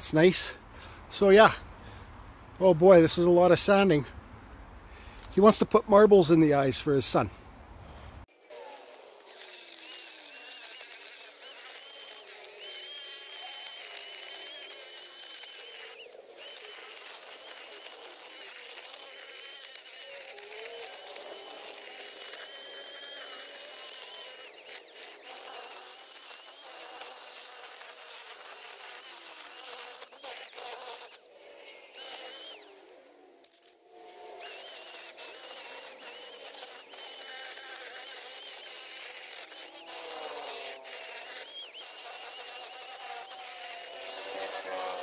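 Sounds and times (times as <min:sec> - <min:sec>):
electric drill sanding wood: 0:08.4 - 0:45.0.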